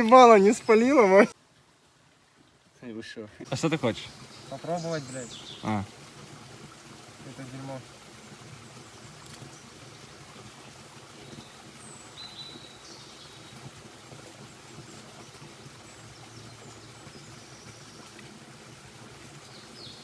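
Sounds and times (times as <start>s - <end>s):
steady woodland hiss: 0.0s - 20.0s.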